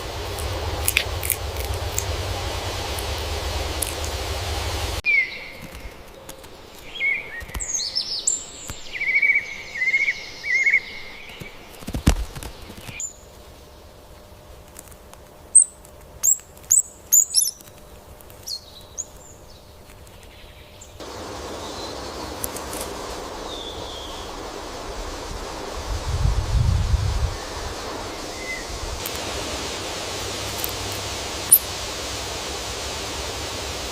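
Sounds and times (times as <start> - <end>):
small birds chirping: 0.0 - 14.0, 15.4 - 29.2, 30.2 - 31.7.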